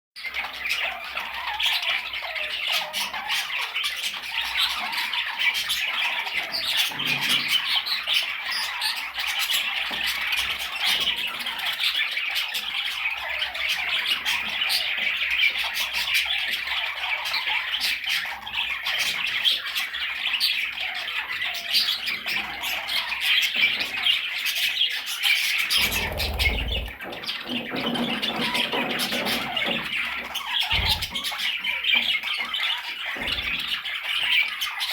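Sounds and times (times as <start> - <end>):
budgerigars chattering and squawking: 0.2 - 34.9.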